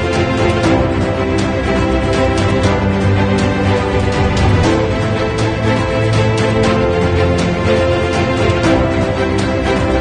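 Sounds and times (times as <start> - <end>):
music with sustained notes: 0.0 - 10.0.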